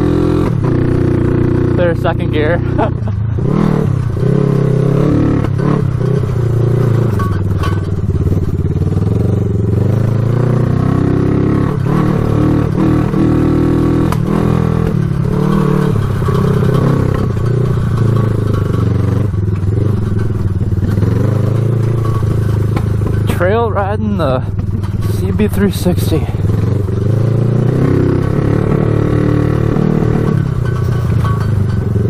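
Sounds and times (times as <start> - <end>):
knocks and rattles: 0.0 - 32.0
motorcycle engine revving: 0.0 - 32.0.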